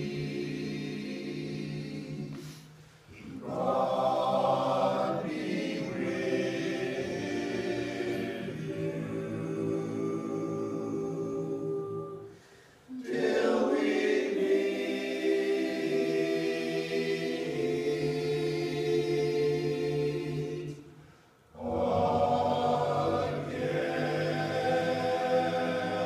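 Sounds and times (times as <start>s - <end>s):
choir singing held chords: 0.0s - 26.0s.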